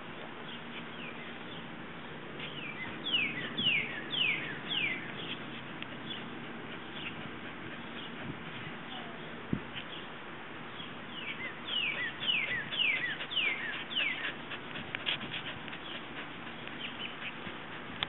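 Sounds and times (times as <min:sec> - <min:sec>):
outdoor background hiss: 0:00.0 - 0:18.0
songbird singing: 0:00.0 - 0:18.0.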